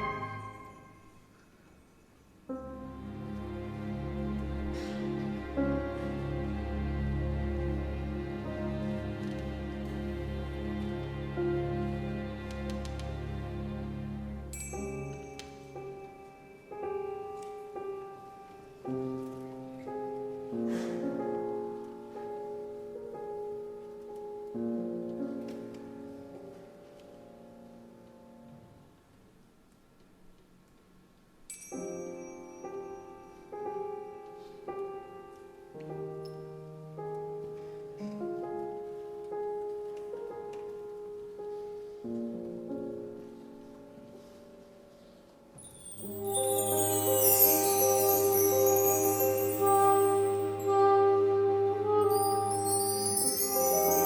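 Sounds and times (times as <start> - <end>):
piano playing slow chords: 0.0 - 1.2, 2.5 - 28.5, 31.5 - 54.0.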